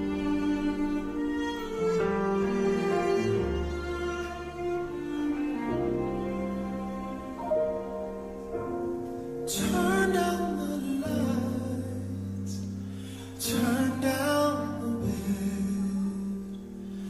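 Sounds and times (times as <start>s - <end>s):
slow sustained chords: 0.0s - 17.0s
sung melody: 0.0s - 17.0s.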